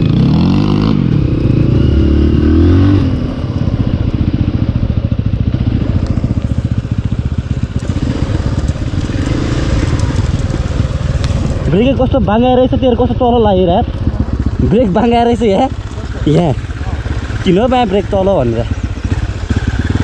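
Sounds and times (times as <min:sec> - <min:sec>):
dirt bike engine revving and idling: 0:00.0 - 0:20.0.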